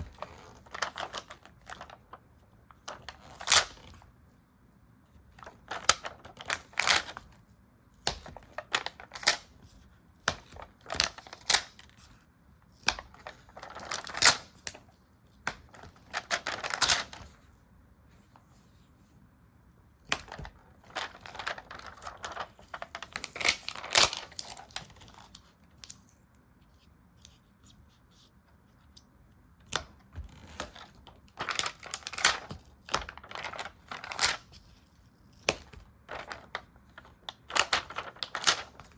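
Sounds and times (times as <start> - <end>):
paper rustling: 0.0 - 4.1, 5.2 - 19.1, 20.0 - 28.8, 29.7 - 38.9.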